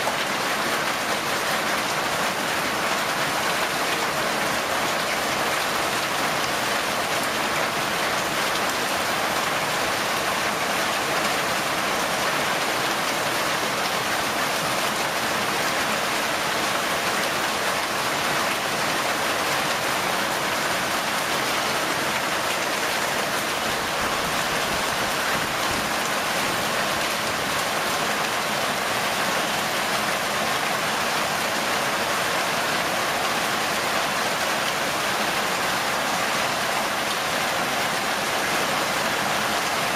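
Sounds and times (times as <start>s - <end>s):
heavy hail and rain pelting: 0.0s - 39.9s.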